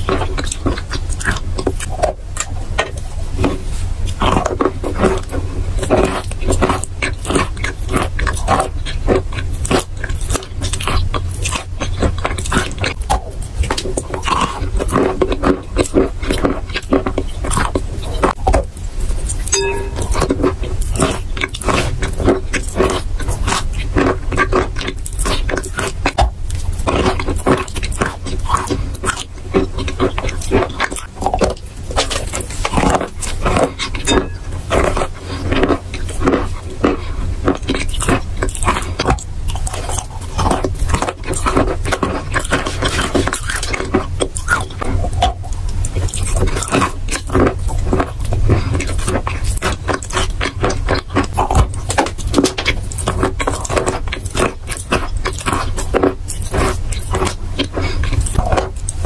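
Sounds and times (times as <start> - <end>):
crunching and chewing chalk: 0.0 - 59.0.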